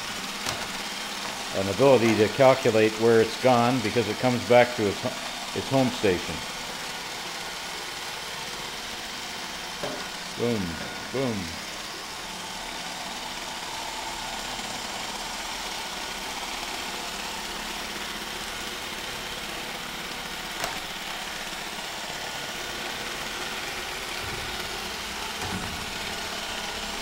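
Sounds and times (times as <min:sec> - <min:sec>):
robot vacuum running: 0:00.0 - 0:27.0.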